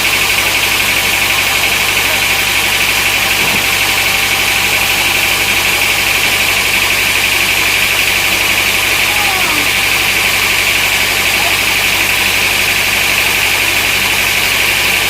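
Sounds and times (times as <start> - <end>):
sawmill engine beating: 0.0 - 15.0.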